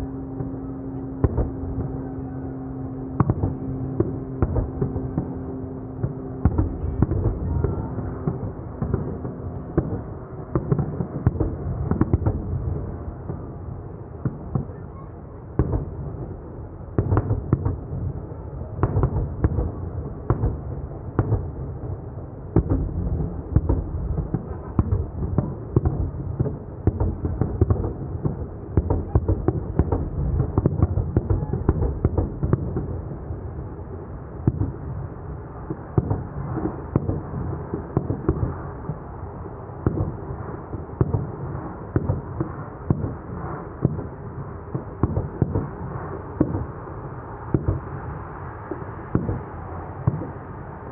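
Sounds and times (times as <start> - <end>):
fireworks booming and popping: 0.0 - 50.6.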